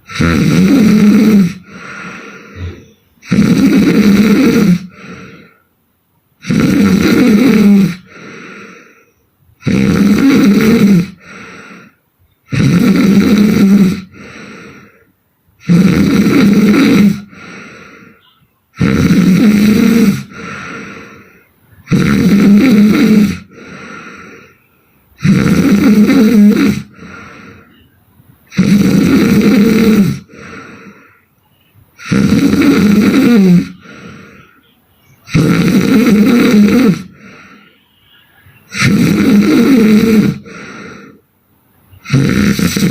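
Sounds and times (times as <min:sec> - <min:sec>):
woman snoring: 0:00.0 - 0:05.6, 0:06.4 - 0:27.8, 0:28.4 - 0:31.3, 0:32.0 - 0:41.2, 0:42.0 - 0:42.9.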